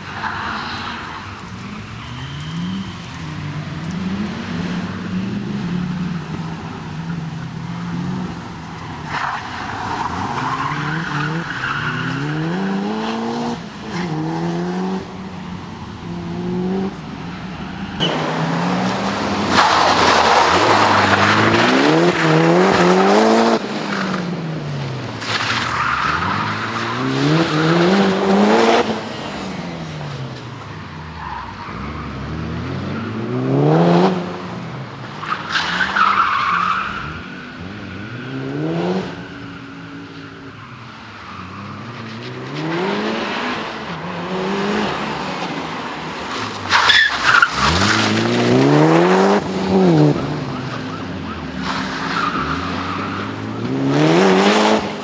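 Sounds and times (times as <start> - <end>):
rally car engine revving: 0.0 - 15.3, 16.0 - 30.5, 31.2 - 39.5, 41.1 - 55.0.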